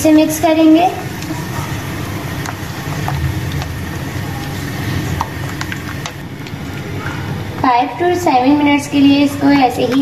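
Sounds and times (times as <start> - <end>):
curry sizzling and bubbling: 0.0 - 10.0.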